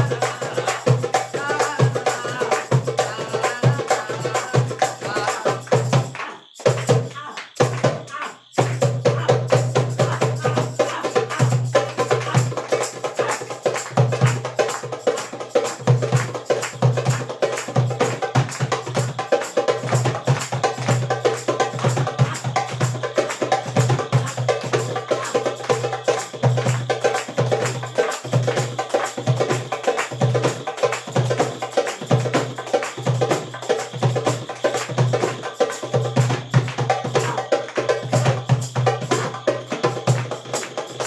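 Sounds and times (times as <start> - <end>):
bongo drums: 0.0 - 41.0.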